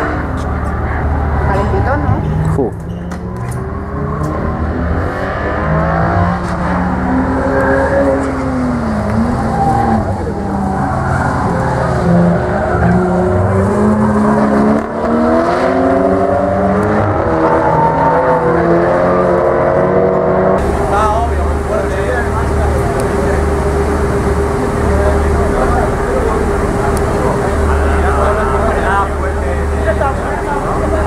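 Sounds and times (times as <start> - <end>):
race car engines revving: 0.0 - 31.0.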